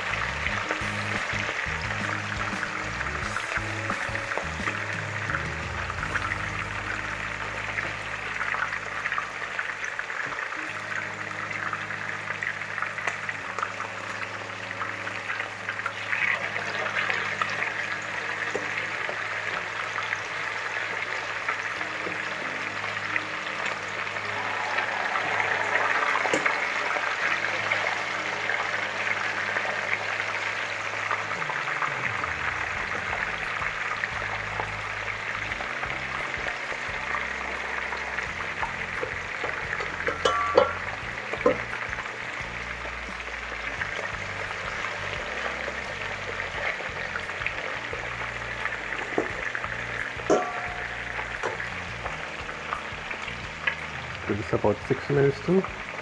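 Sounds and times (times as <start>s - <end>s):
chicken frying in hot oil: 0.0s - 56.0s.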